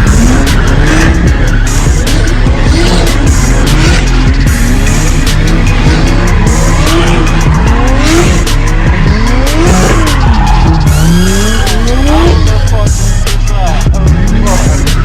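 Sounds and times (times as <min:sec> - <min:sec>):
car engines revving: 0:00.0 - 0:15.0
music with a steady beat: 0:00.0 - 0:15.0
tyres squealing: 0:00.0 - 0:15.0.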